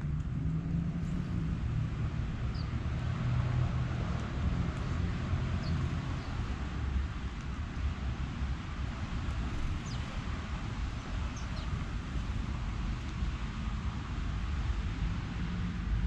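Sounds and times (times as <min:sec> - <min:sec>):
engine hum: 0:00.0 - 0:16.0
road traffic rumble: 0:00.0 - 0:16.0.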